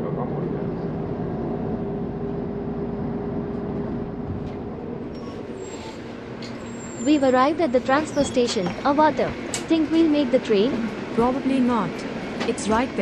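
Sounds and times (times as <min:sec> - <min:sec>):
bus engine and drivetrain hum: 0:00.0 - 0:13.0.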